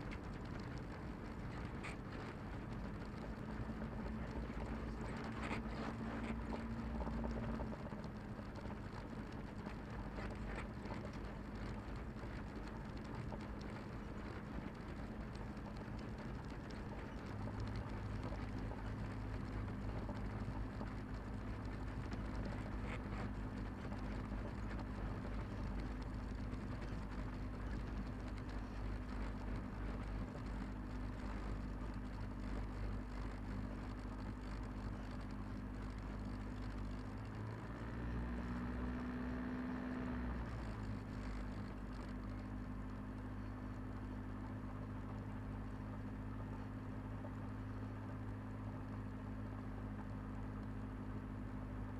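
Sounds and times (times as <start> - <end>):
aircraft engine drone: 0.0 - 51.9.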